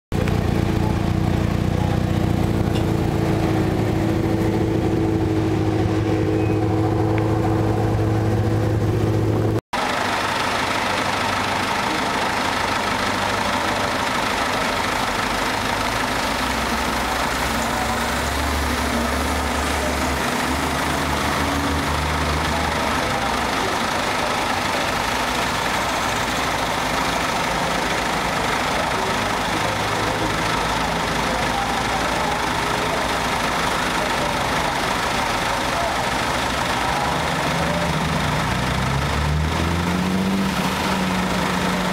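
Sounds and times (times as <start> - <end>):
car engine idling: 0.1 - 41.9
cars driving slowly past: 0.1 - 41.9
traffic noise: 0.1 - 41.9.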